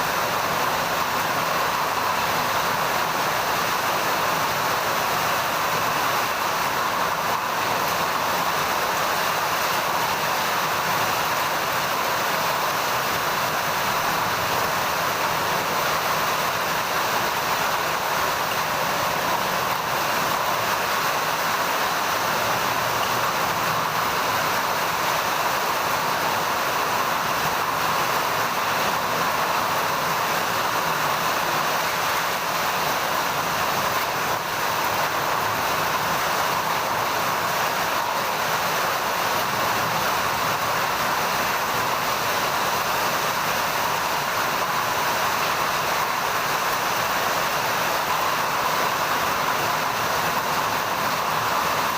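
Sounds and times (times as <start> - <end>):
heavy rain hissing: 0.0 - 51.9.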